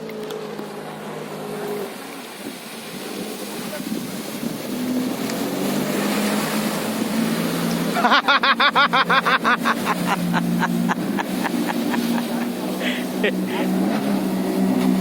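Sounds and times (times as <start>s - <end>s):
motorboat engine running: 0.0s - 15.0s
water and wind rushing: 0.0s - 15.0s.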